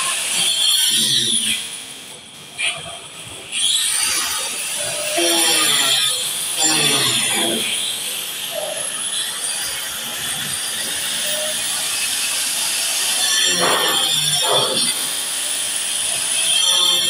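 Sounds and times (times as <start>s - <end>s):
grinder cutting concrete: 0.0s - 17.0s.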